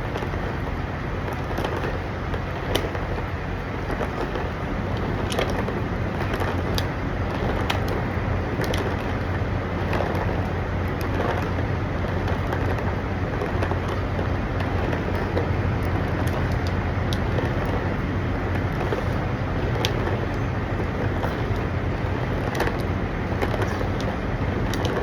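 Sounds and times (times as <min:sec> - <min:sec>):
truck engines idling: 0:00.0 - 0:25.0.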